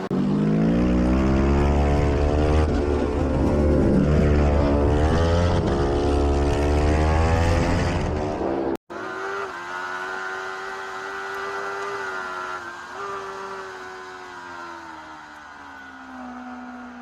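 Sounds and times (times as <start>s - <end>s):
racing motorcycle engine revving: 0.0s - 17.0s.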